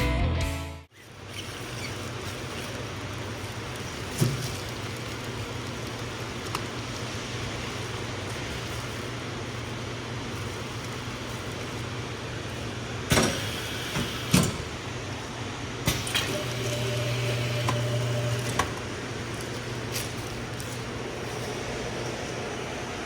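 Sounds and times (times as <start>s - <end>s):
fan hum: 0.9s - 23.0s.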